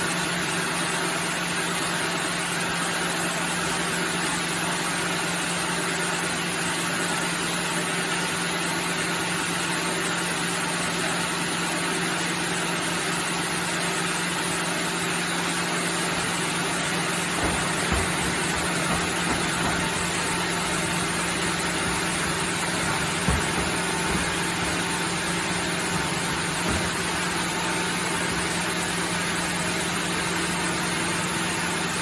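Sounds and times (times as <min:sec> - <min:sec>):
sawmill machinery running: 0:00.0 - 0:32.0.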